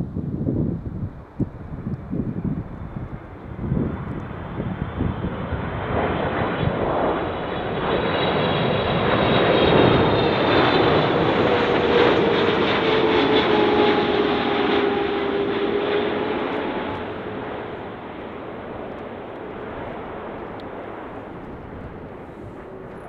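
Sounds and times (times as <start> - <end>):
airliner passing low overhead: 0.0 - 23.0
high engine whine: 1.5 - 23.0.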